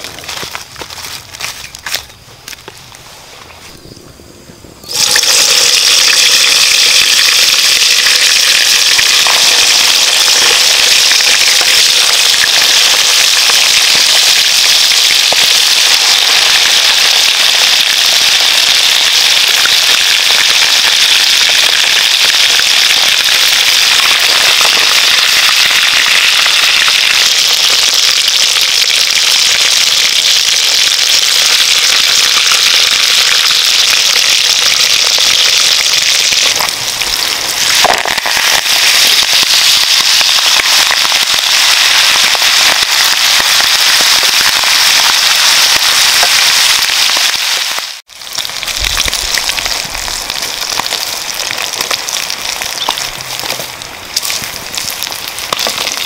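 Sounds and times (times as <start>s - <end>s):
deep-frying sizzle and crackle: 4.8s - 56.0s.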